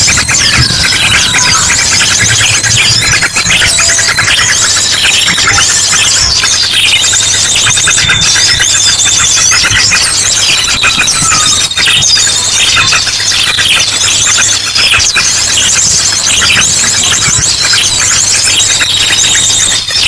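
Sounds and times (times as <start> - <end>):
sharp bird song bursts: 0.0 - 20.0
small birds chattering and trilling: 0.0 - 20.0.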